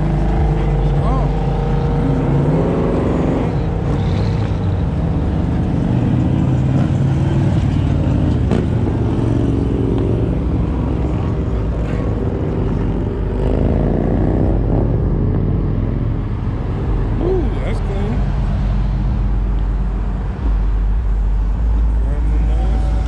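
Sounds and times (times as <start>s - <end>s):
car engine running: 0.0s - 23.0s
road noise: 0.0s - 23.0s.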